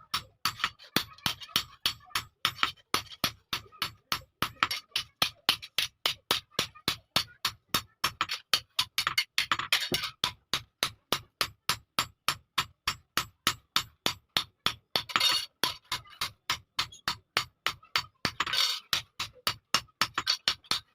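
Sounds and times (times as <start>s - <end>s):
hammer striking iron on anvil: 0.0s - 20.9s.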